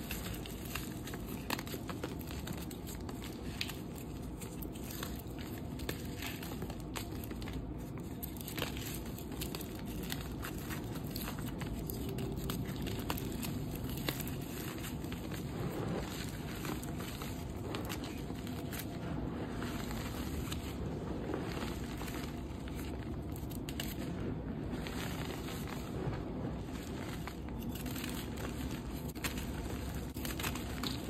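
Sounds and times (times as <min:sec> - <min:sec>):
hands crushing dry chalk: 0:00.0 - 0:31.0.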